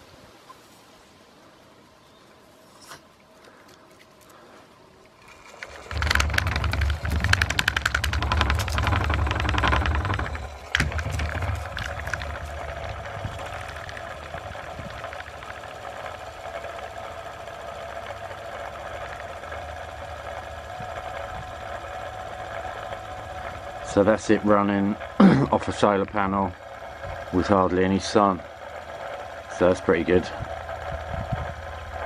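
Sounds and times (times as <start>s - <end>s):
motor rattling: 5.1s - 32.0s
electric motor whirring: 5.2s - 32.0s.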